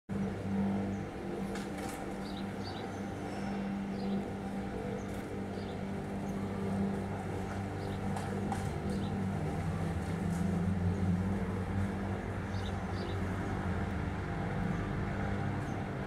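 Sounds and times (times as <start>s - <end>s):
low mechanical hum: 0.1s - 16.0s.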